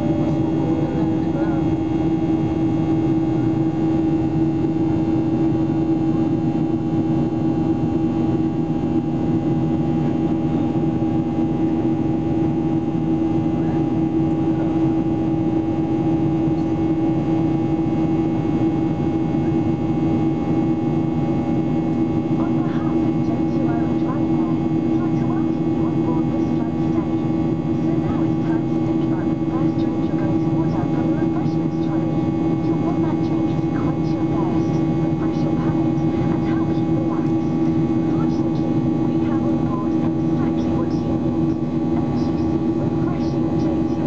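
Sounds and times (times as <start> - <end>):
jet engines droning: 0.0 - 44.0.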